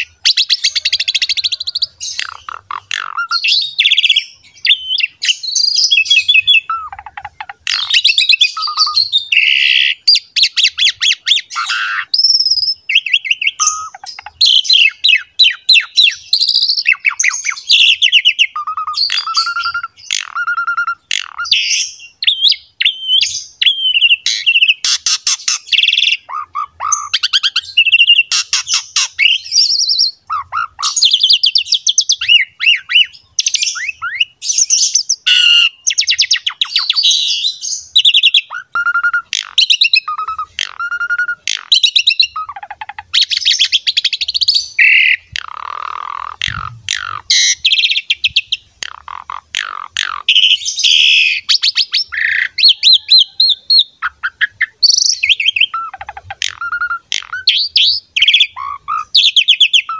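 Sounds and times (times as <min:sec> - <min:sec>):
starling singing whistles and trills: 0:00.0 - 0:59.9.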